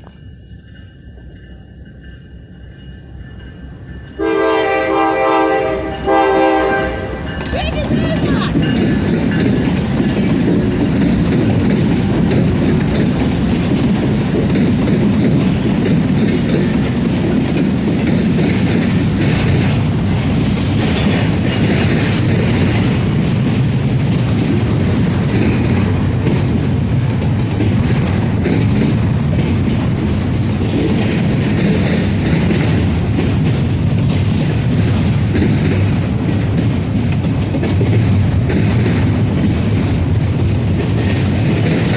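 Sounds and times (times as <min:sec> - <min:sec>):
freight train rumbling past: 0:00.0 - 0:41.9
wheels clicking over rail joints: 0:07.1 - 0:41.9.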